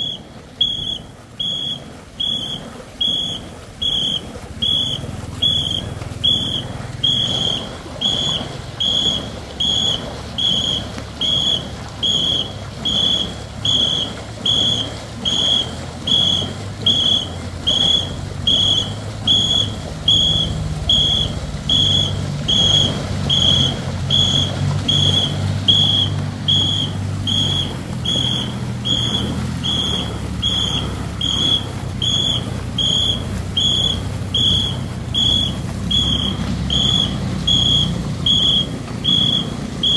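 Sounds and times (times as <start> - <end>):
short high-pitched whistle blasts: 0.0 - 39.9.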